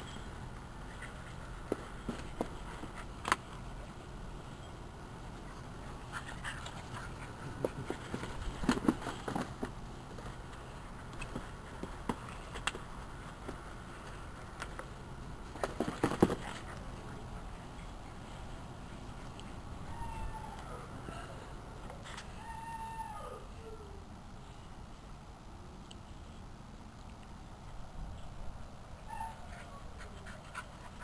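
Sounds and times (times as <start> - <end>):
steady low background noise: 0.0 - 31.0.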